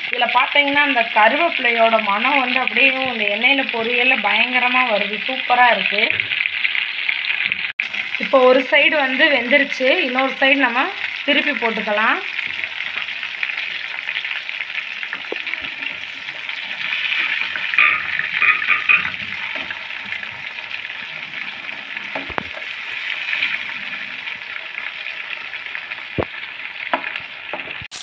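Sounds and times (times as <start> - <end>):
prawns sizzling in hot oil: 0.0 - 28.0.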